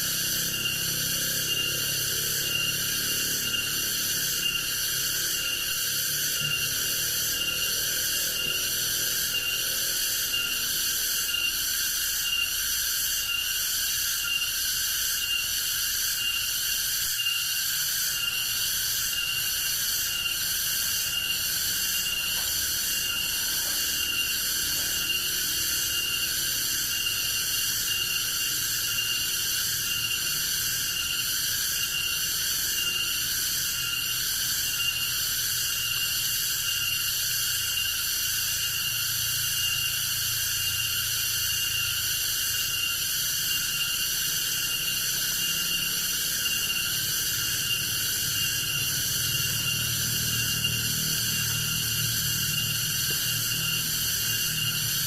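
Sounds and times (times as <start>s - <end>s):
forest insects droning: 0.0s - 55.0s.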